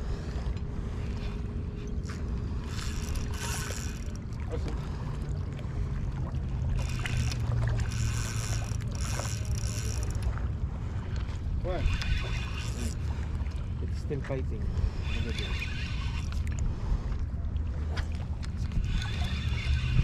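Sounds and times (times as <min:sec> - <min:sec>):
low steady hum: 0:00.0 - 0:20.0
wind rumbling on microphone: 0:00.0 - 0:20.0.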